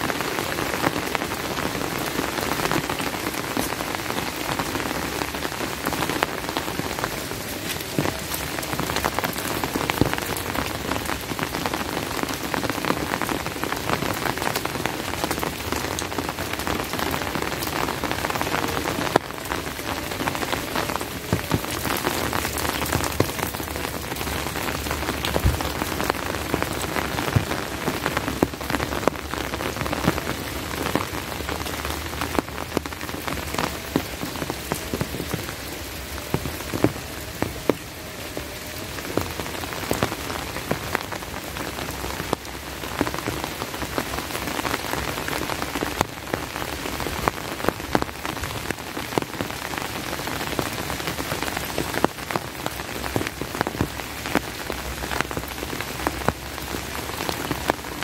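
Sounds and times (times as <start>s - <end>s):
raindrop hits: 0.0s - 58.0s
steady rain hiss: 0.0s - 58.0s.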